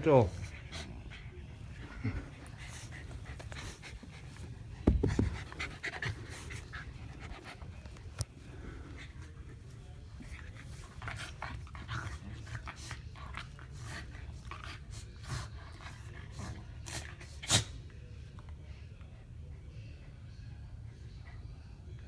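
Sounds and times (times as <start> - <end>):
dogs panting: 0.0 - 17.9.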